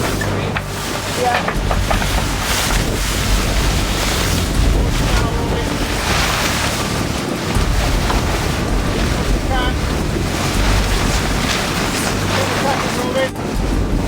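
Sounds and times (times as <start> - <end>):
water rushing past hull: 0.0 - 14.0
wind buffeting microphone: 0.0 - 14.0.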